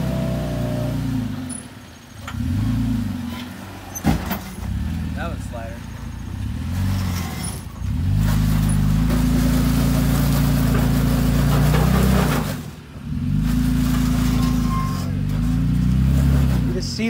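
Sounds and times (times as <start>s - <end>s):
truck engine pulling: 0.0s - 17.0s.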